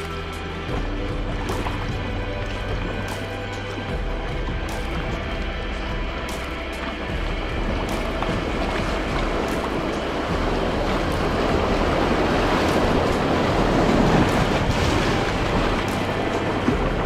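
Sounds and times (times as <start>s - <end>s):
paddle splashing water: 0.0s - 17.0s
whitewater rushing: 0.0s - 17.0s.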